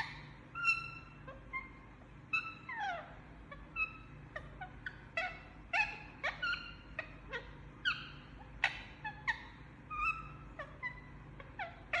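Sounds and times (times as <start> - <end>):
parrot squeaky chirps: 0.0 - 12.0.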